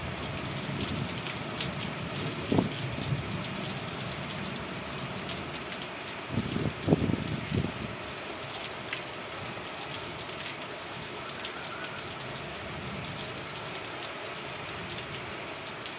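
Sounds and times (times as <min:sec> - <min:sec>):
rain falling: 0:00.0 - 0:15.9.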